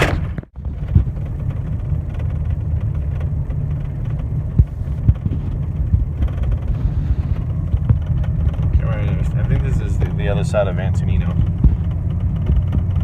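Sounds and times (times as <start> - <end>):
knocks and thumps: 0.0 - 2.9, 4.0 - 10.1, 11.3 - 13.0
vehicle rumble: 0.0 - 13.0.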